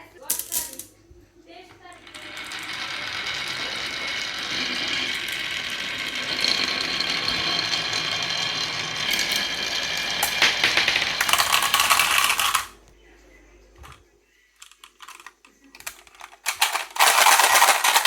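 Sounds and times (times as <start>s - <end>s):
marbles rattling down a track: 0.3s - 0.9s, 1.9s - 12.8s, 14.6s - 18.0s.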